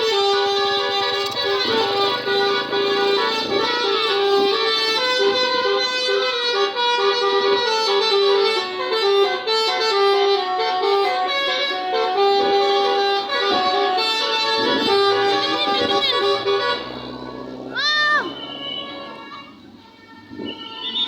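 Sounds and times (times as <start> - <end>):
musical bus air horns melody: 0.1 - 17.3.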